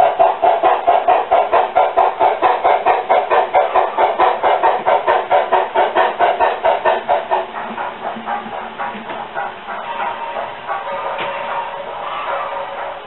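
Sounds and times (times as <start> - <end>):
model steam locomotive chuffs: 0.0 - 13.0.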